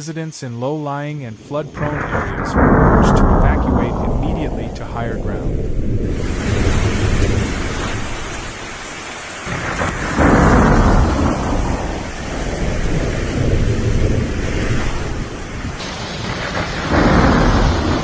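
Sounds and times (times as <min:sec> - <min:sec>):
gusting wind: 0:01.3 - 0:18.0
heavy rain: 0:01.5 - 0:18.0.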